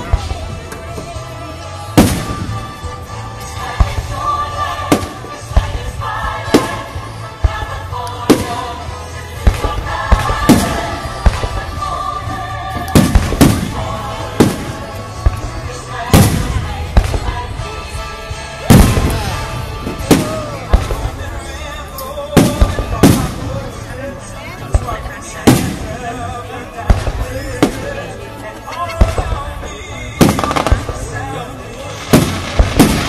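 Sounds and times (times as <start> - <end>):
music playing: 0.0 - 33.0.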